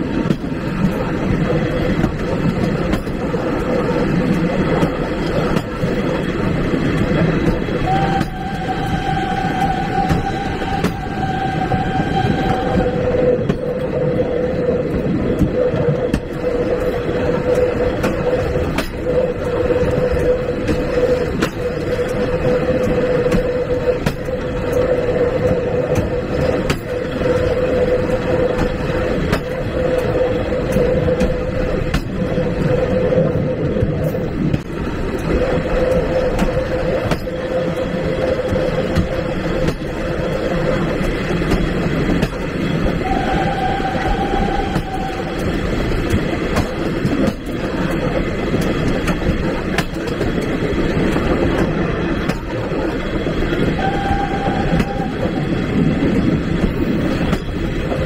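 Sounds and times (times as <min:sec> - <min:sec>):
sustained whine: 0:00.0 - 0:58.0
train wheels rumbling on track: 0:00.0 - 0:58.0.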